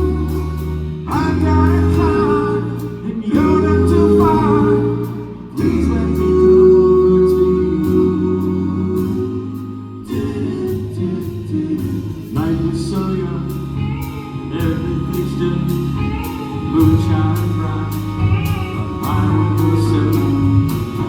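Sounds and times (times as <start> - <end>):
high percussion strokes: 0.0 - 21.0
live pop band playing: 0.0 - 21.0
vocal harmonies: 0.0 - 21.0.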